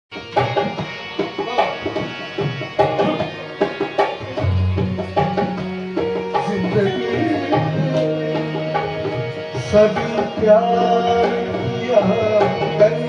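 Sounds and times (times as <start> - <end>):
tabla playing: 0.1 - 13.0
melody instrument holding long notes: 0.2 - 13.0.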